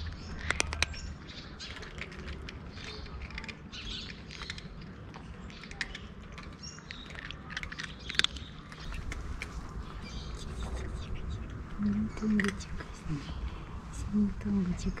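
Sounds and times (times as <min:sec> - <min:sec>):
cat crunching dry kibble: 0:00.0 - 0:13.9.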